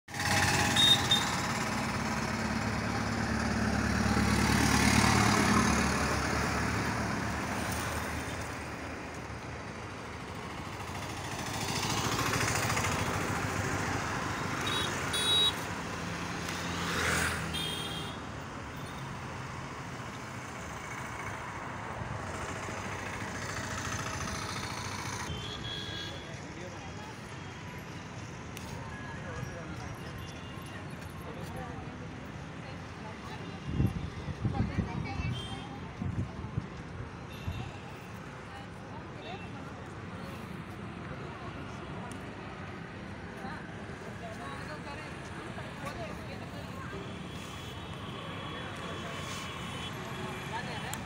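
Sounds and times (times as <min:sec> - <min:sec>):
vehicles passing: 0:00.1 - 0:51.0.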